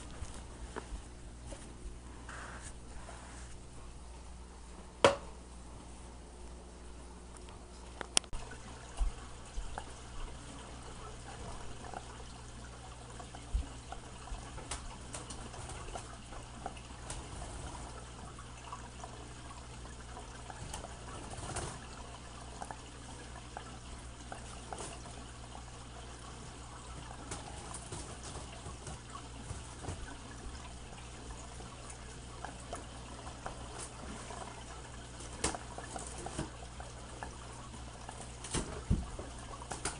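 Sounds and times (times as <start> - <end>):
aquarium filter trickling: 0.0 - 39.9.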